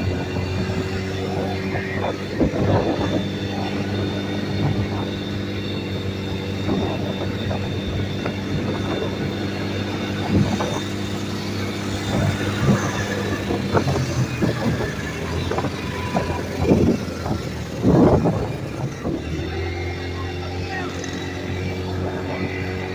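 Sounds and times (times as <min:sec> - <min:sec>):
small vehicle engine running: 0:00.0 - 0:22.9.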